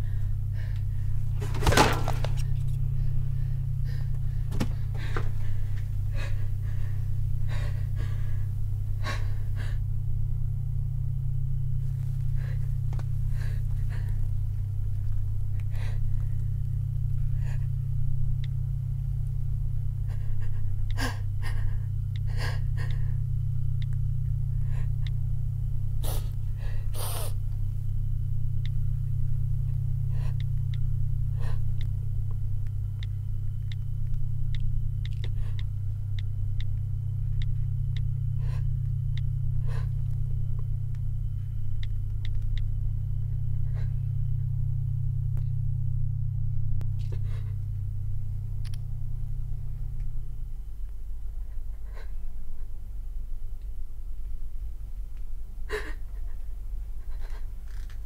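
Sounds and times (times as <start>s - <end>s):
low steady drone: 0.0s - 58.0s.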